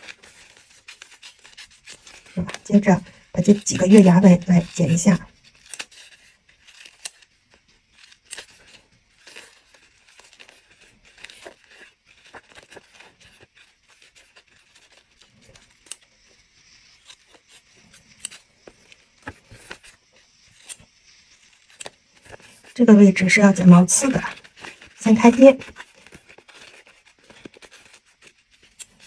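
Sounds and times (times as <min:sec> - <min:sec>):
scissors snipping paper: 0:00.0 - 0:19.9, 0:20.5 - 0:22.8, 0:24.3 - 0:29.0
paper rustling: 0:00.0 - 0:29.0.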